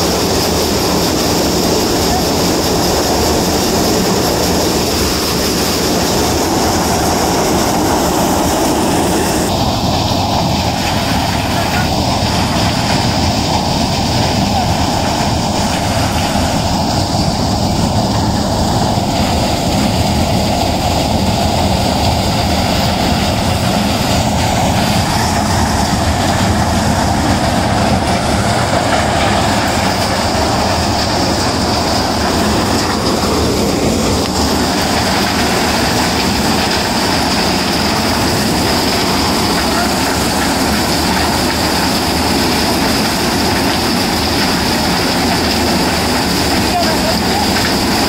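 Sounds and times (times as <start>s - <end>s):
thresher machine running: 0.0s - 48.0s.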